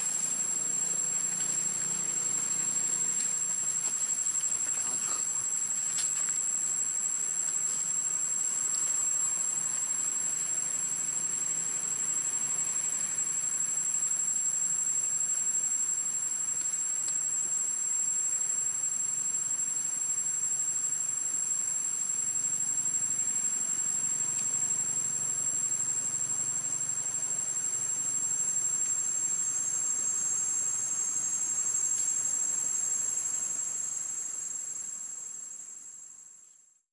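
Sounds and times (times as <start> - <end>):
cicadas droning: 0.0 - 36.9.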